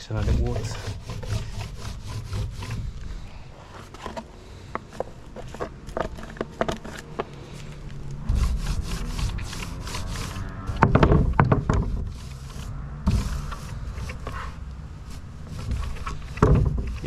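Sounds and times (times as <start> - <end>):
brush scraping on plywood: 0.0 - 17.0
low steady rumble: 0.0 - 17.0.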